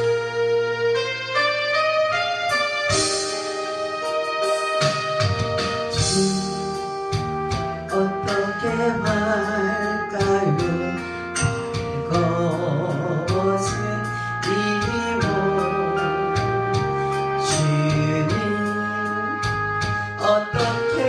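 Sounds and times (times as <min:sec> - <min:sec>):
keyboard and drum backing: 0:00.0 - 0:21.0.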